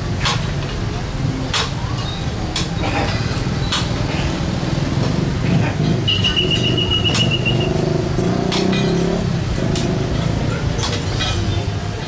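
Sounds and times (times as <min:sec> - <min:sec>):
motorbike and car engines: 0:00.0 - 0:12.0.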